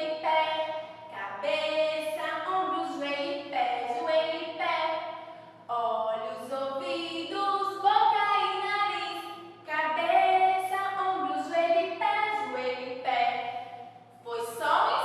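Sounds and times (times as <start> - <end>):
woman singing: 0.0 - 5.0, 5.7 - 13.6.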